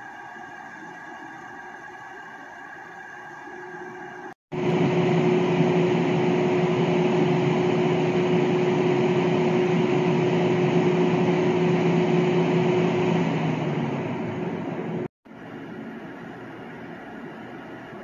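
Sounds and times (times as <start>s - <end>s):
train air conditioning hum: 0.0s - 18.0s.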